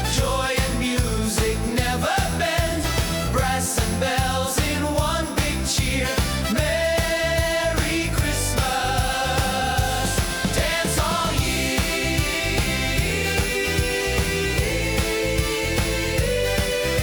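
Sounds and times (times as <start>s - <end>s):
upbeat christmas pop music: 0.0s - 17.0s.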